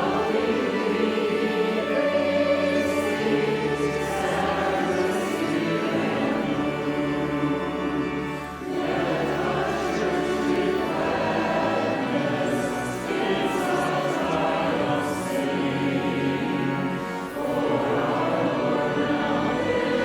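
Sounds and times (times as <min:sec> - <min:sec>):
choir singing a hymn: 0:00.0 - 0:20.0
musical accompaniment: 0:00.0 - 0:20.0.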